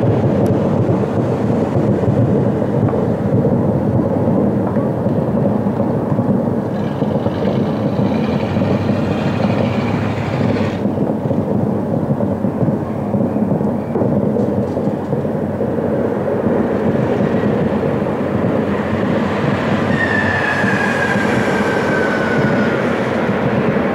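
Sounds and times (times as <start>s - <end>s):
falling firework whistle: 0.0s - 15.4s, 16.8s - 23.9s
fireworks bursting: 0.0s - 23.9s.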